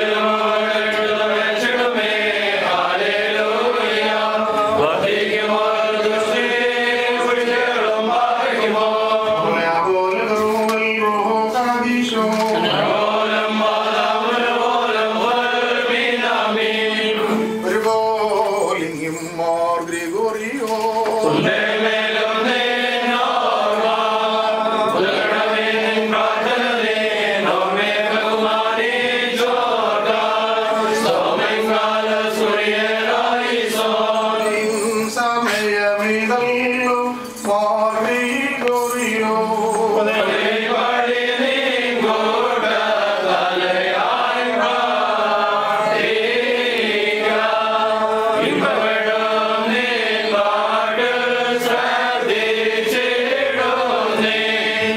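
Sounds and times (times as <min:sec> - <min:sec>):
group chanting a hymn: 0:00.0 - 0:18.8, 0:20.1 - 0:54.9.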